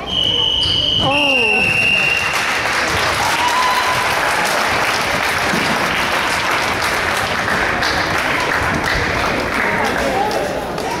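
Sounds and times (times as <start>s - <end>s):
spectators applauding: 1.4s - 11.0s.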